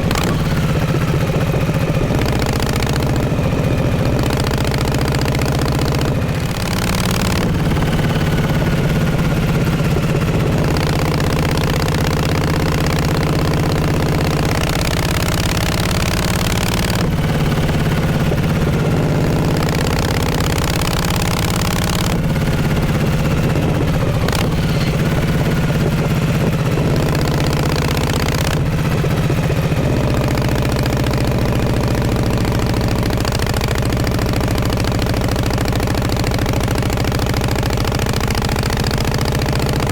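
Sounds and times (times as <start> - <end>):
motorcycle exhaust: 0.0 - 39.9
wind and road noise: 0.0 - 39.9.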